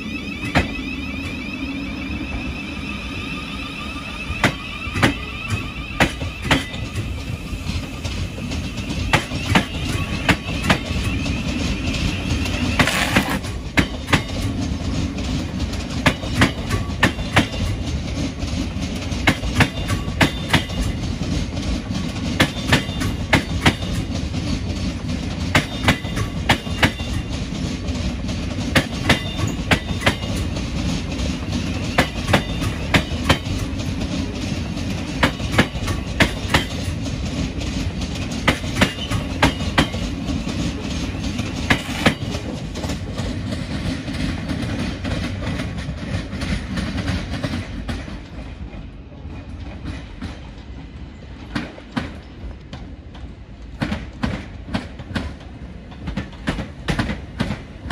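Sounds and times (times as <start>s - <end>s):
train rumbling past: 0.0s - 57.9s
wheels clicking over rail joints: 4.4s - 57.9s.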